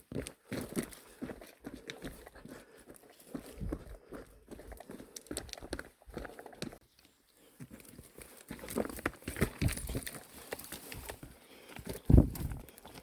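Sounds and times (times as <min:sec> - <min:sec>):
footsteps on rocky trail: 0:00.0 - 0:13.0.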